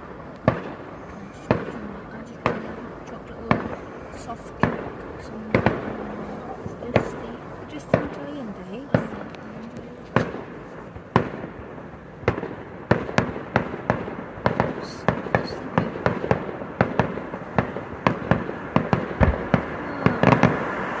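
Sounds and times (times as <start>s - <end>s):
background rumble: 0.0s - 21.0s
fireworks bangs: 0.0s - 21.0s.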